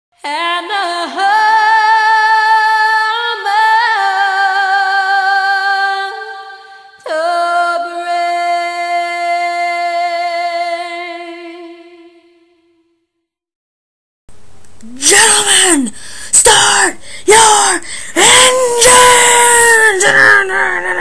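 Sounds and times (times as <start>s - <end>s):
high voice singing with vibrato: 0.2s - 12.7s, 14.8s - 21.0s.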